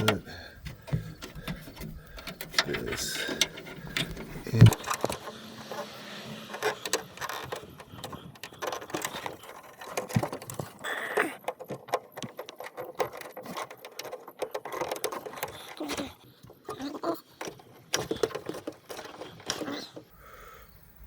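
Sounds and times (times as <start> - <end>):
connector clicks and rattles: 0.0 - 20.1.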